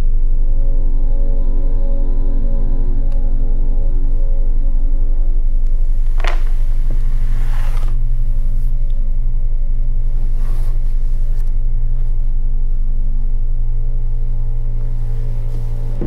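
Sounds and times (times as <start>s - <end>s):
low pulsing rumble drone: 0.0s - 16.0s.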